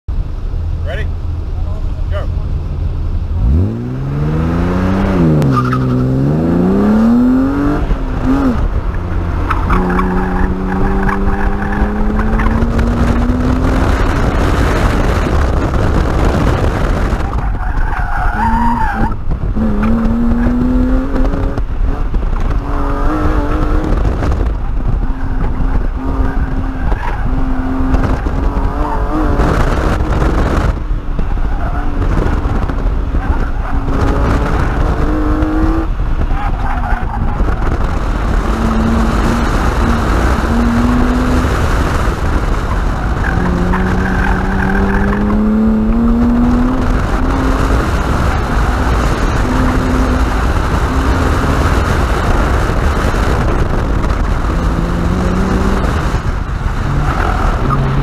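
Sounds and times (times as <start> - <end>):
car engine revving: 1.1 - 58.0.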